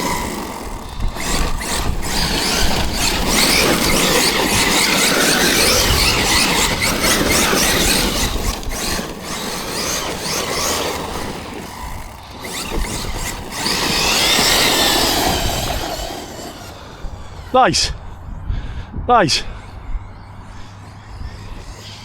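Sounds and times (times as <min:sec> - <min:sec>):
tyres on gravel: 0:00.0 - 0:18.4
electric motor whining: 0:00.0 - 0:18.7, 0:19.5 - 0:22.0.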